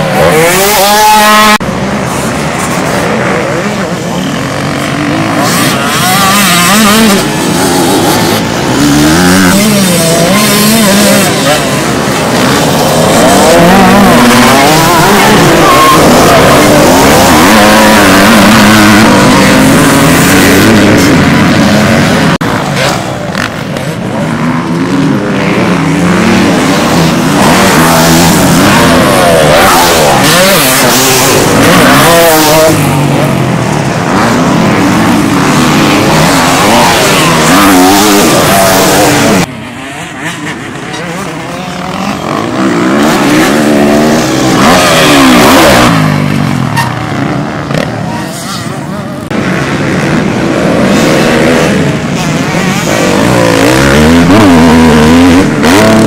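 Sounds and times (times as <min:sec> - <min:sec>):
off-road motorcycles revving: 0:00.0 - 0:56.0.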